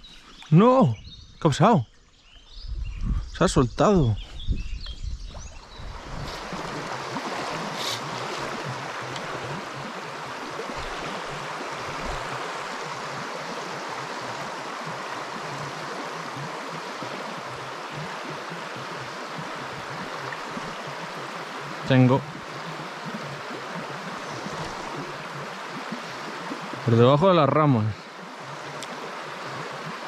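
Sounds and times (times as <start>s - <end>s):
river water rippling: 0.0s - 2.6s, 4.0s - 30.0s.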